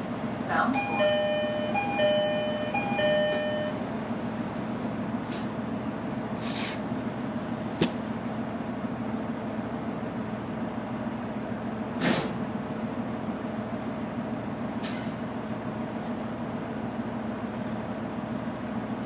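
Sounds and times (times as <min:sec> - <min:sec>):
diesel railcar engine idling: 0:00.0 - 0:19.0.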